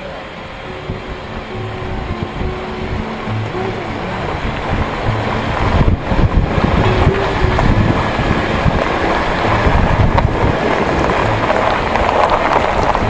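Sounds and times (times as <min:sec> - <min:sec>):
engine and tyre rumble: 0:00.0 - 0:13.0
wind noise on microphone: 0:00.6 - 0:13.0.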